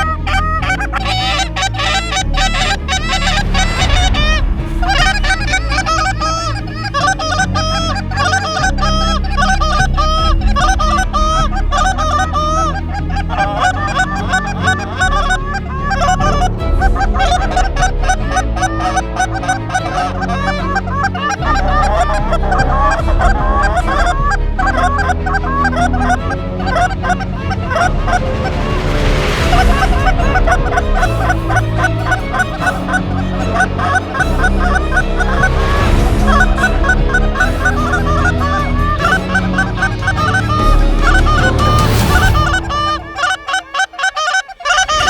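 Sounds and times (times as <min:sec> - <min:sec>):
background music with low bass: 0:00.0 - 0:43.4
goose honking: 0:00.0 - 0:45.0.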